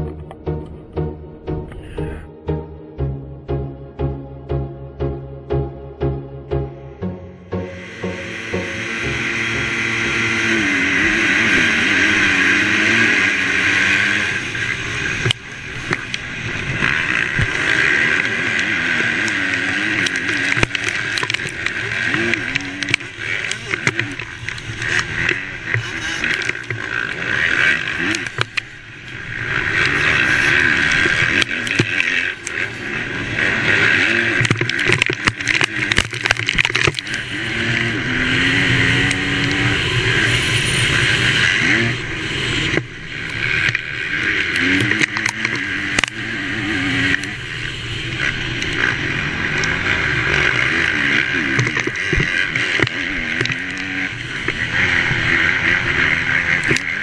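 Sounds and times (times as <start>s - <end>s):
motocross bike engine revving: 2.5s - 57.0s
wind and track noise: 7.7s - 57.0s.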